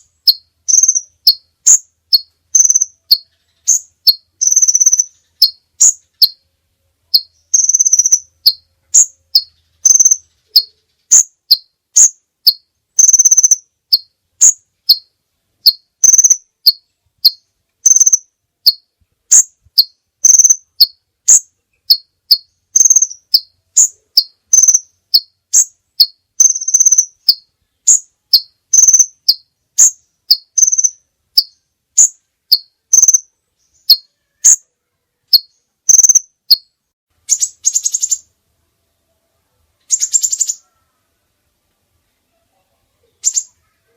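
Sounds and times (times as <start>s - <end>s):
songbird chirping and singing: 0.0s - 38.3s, 39.0s - 41.4s, 42.0s - 43.9s.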